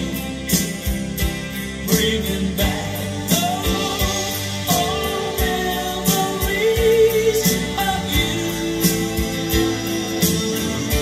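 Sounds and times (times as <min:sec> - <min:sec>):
song with vocals and beat: 0:00.0 - 0:11.0.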